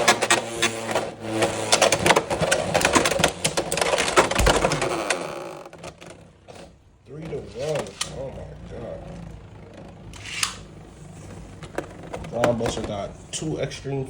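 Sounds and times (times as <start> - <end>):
spinning tips scraping: 0.0 - 13.7.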